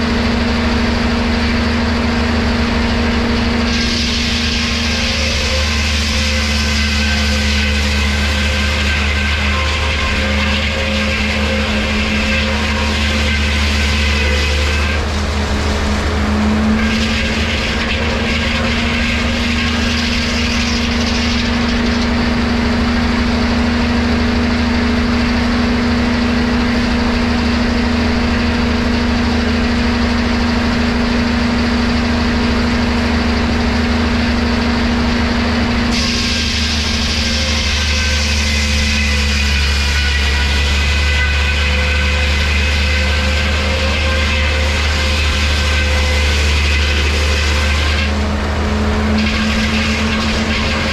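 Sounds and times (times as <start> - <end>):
high machine whines: 0.0 - 50.9
sawmill machinery humming: 0.0 - 50.9.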